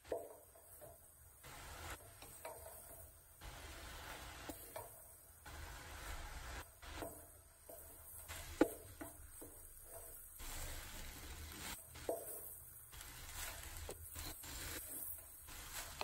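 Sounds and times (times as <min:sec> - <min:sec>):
wooden spoon scraping pot: 0:00.1 - 0:16.0.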